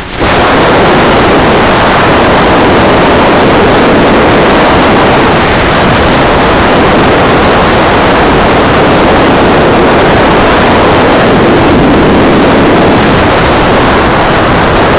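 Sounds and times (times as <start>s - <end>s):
wind buffeting microphone: 0.2s - 14.9s.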